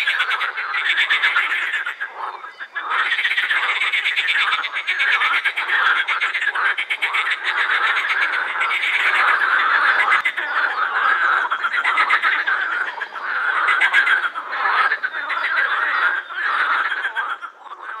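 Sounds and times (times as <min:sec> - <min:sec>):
frogs croaking: 0:00.0 - 0:18.0.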